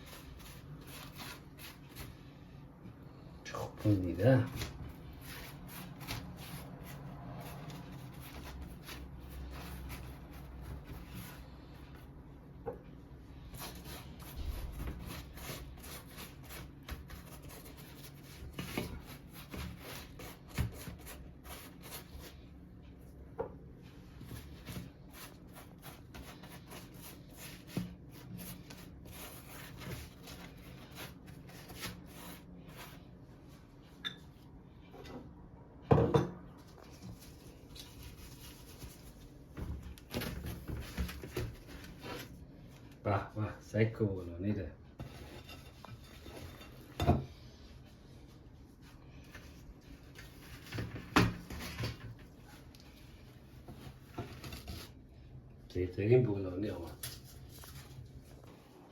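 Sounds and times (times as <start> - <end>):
soft rubbing and handling: 0.0 - 35.5, 36.5 - 44.1, 44.7 - 55.7, 56.7 - 58.9.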